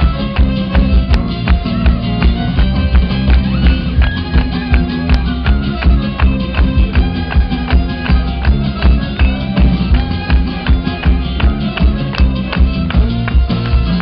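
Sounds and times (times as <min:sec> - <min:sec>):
live band playing amplified music: 0:00.0 - 0:14.0.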